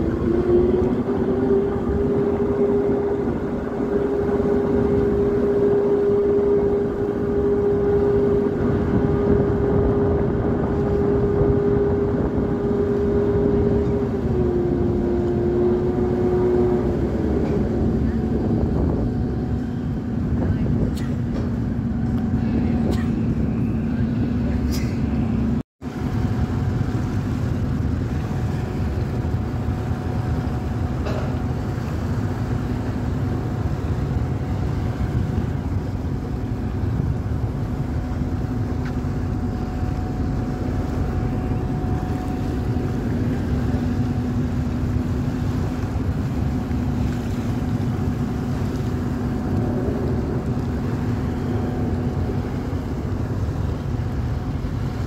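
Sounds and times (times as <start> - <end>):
ship engines rumbling: 0.0 - 55.0
wind on microphone: 0.0 - 55.0.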